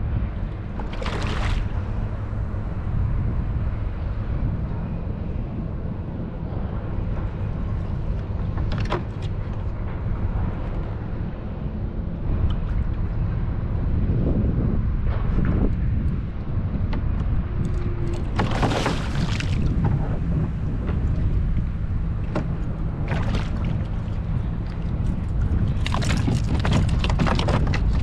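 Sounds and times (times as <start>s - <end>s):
water lapping at hull: 0.0s - 28.0s
wind rumble on microphone: 0.0s - 28.0s.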